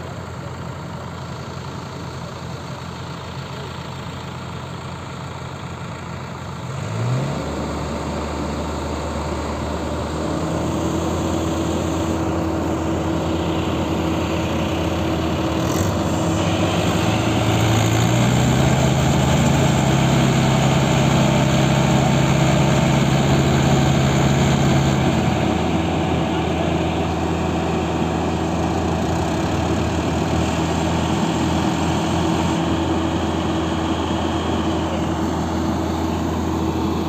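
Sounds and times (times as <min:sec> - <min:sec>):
low diesel engine drone: 0:00.0 - 0:37.0
higher engine note: 0:07.0 - 0:37.0.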